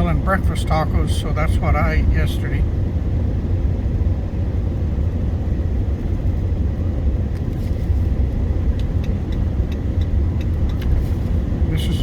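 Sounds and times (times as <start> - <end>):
truck road and engine rumble: 0.0 - 12.0.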